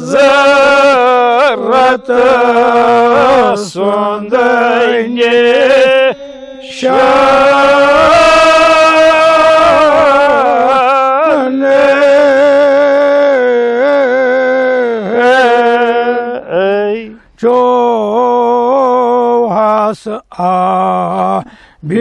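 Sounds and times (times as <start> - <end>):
man chanting: 0.0 - 22.0.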